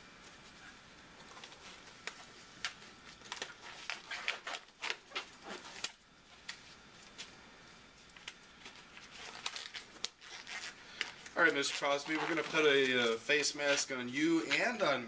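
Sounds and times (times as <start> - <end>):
rubber gloves rustling and snapping: 1.2 - 15.0.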